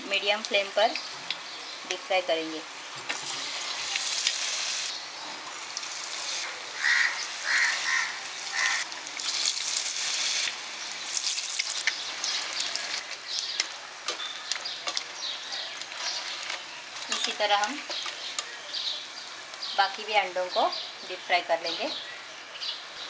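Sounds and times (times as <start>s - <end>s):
oil sizzling with crackling pops: 0.0s - 20.2s.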